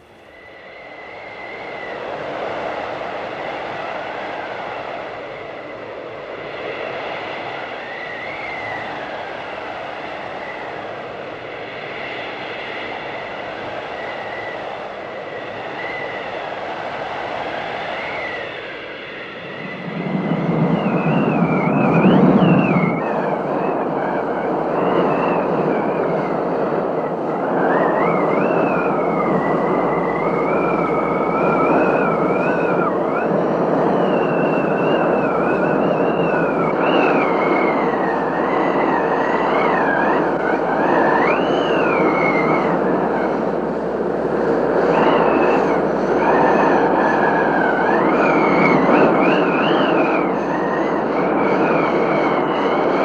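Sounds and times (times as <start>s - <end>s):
wind rushing and howling: 0.0s - 53.0s.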